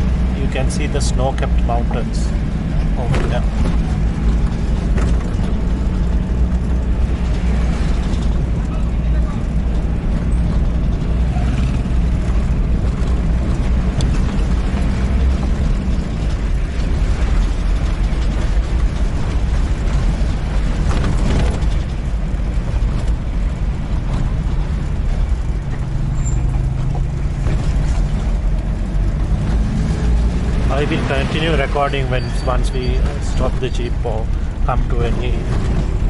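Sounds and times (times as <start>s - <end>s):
jeep engine running: 0.0s - 36.0s
vehicle body rattling and creaking: 0.0s - 36.0s.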